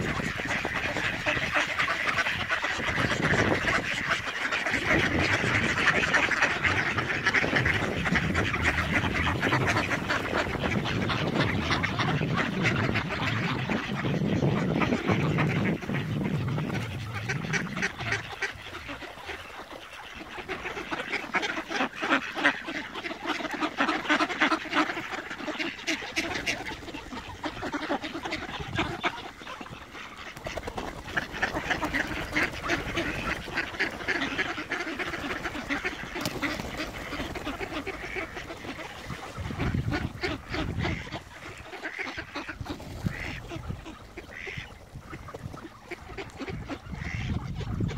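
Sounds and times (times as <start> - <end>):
ducks quacking: 0.0 - 47.9.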